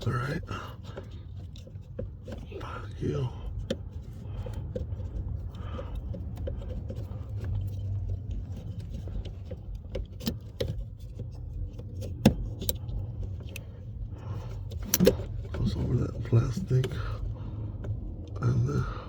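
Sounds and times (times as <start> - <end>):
small clicks and knocks of parts: 0.0 - 18.7.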